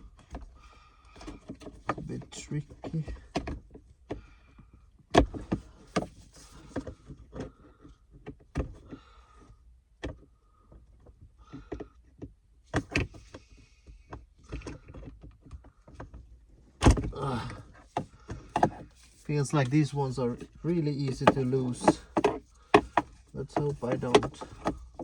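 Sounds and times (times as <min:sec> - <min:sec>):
clicks and knocks on plastic console: 0:01.2 - 0:04.3, 0:05.1 - 0:09.0, 0:10.0 - 0:25.0.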